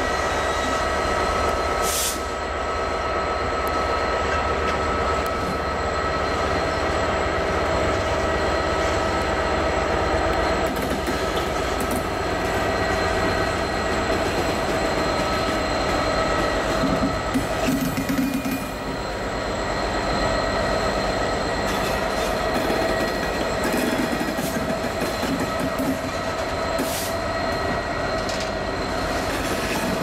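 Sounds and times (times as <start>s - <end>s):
diesel locomotive engine throbbing: 0.0s - 30.0s.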